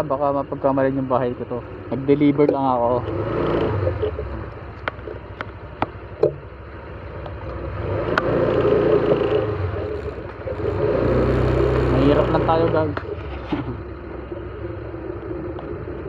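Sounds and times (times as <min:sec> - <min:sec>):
vehicle engine running at low speed: 0:00.0 - 0:16.0.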